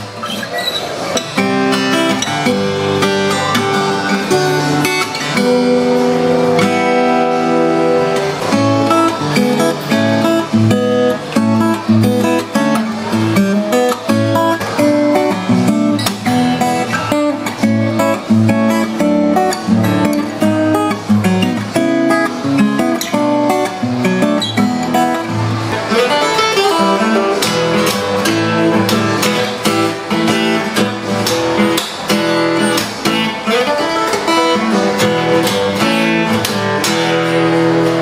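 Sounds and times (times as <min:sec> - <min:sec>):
acoustic guitar fingerpicked: 0:00.0 - 0:38.0.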